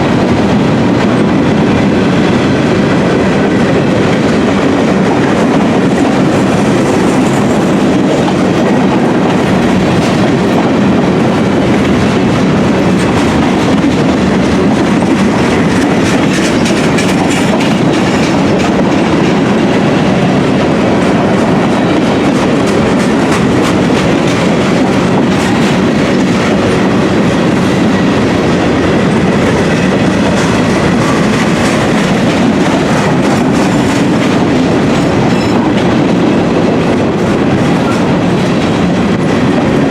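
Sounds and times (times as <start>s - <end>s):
freight train wheels rumbling on rails: 0.0s - 39.9s
wheels clicking over rail joints: 0.3s - 39.9s.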